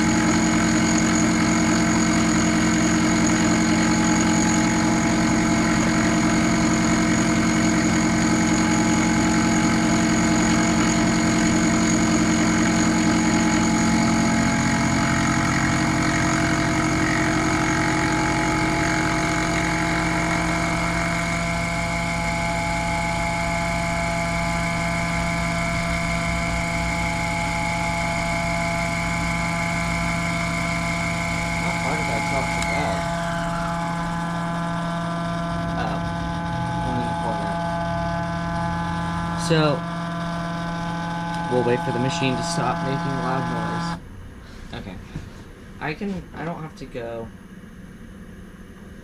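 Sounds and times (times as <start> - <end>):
milling machine cutting steel: 0.0 - 44.0.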